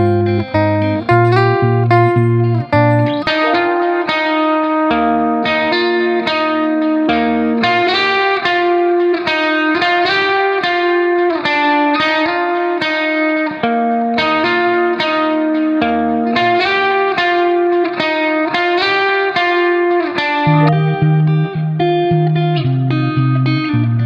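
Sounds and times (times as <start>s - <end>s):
plucked guitar melody with beat: 0.0s - 24.0s.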